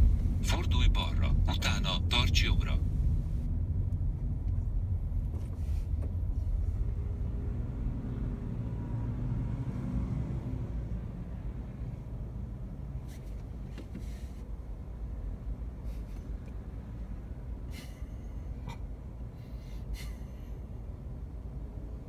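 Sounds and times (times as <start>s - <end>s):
car rumble from inside cabin: 0.0s - 22.0s.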